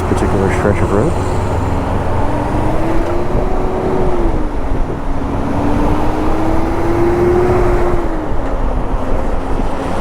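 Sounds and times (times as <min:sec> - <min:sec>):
motorcycle engine: 0:00.0 - 0:08.3
road and wind rumble: 0:00.0 - 0:10.0.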